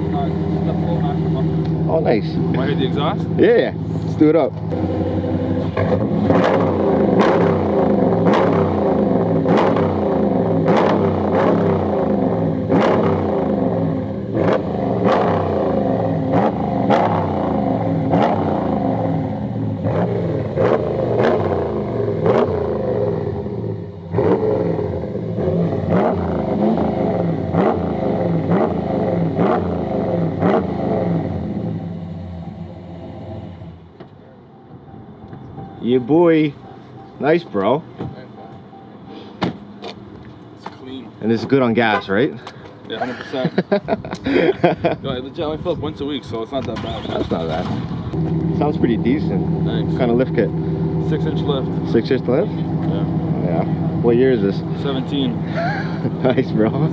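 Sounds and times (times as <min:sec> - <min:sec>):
truck engine revving: 0:00.0 - 0:34.0, 0:43.4 - 0:56.9.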